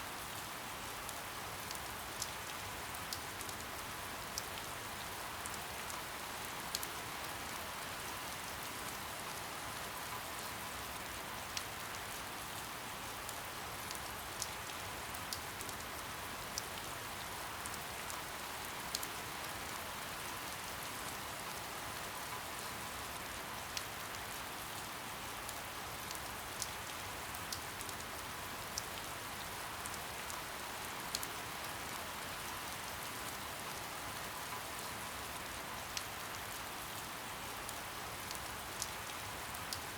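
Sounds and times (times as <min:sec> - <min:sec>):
soft rain falling: 0:00.0 - 0:39.9
raindrops ticking on a surface: 0:00.2 - 0:39.9.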